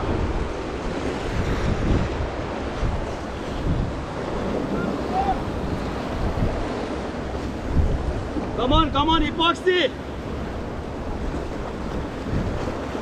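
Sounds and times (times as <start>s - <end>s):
wind buffeting microphone: 0.0s - 9.4s, 10.0s - 13.0s
waves washing against rocks: 0.0s - 13.0s.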